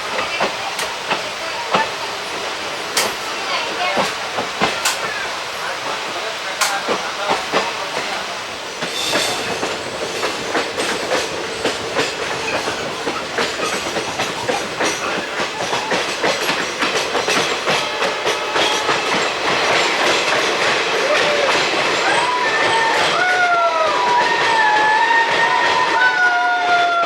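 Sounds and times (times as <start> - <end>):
train wheels clattering over joints: 0.0 - 5.6, 6.5 - 26.5
train rolling noise: 0.0 - 27.0.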